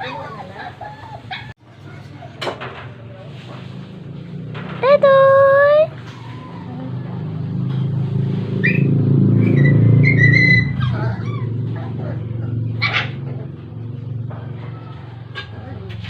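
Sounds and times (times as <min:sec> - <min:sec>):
vehicle engine rumble passing: 0:00.0 - 0:16.0.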